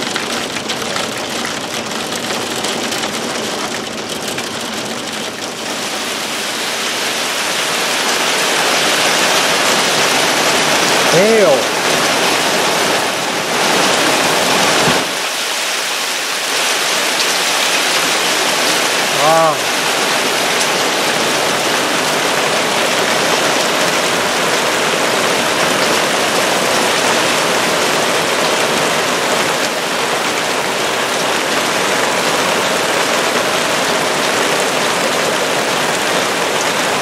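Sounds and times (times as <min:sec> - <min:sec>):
hail and rain pelting ground: 0:00.0 - 0:37.0.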